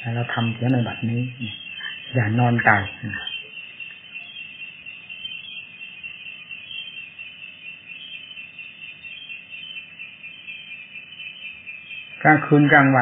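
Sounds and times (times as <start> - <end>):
high-pitched shrill drone: 0.0 - 13.0.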